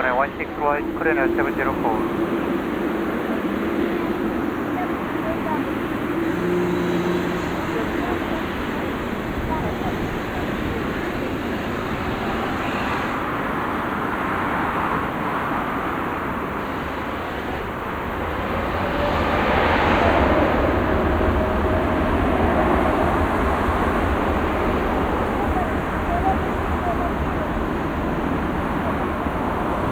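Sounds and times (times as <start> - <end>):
faint steady whine: 0.0 - 29.9
jet engines at takeoff thrust: 0.0 - 29.9.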